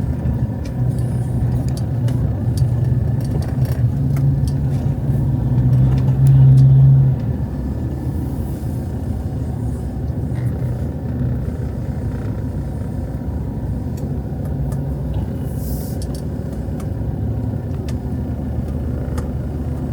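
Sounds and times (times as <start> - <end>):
road traffic rumble: 0.0 - 19.9
vehicle engine running: 0.0 - 19.9.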